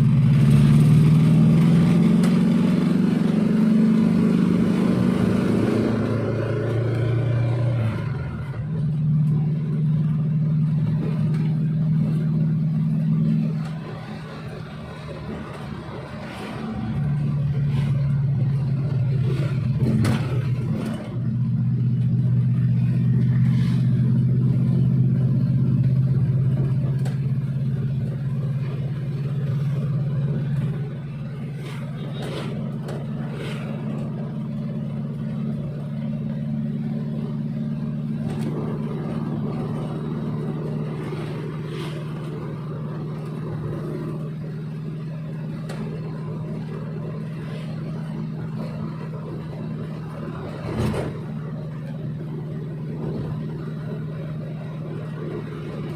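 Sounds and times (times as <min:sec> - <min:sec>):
van engine running: 0:00.0 - 0:55.9.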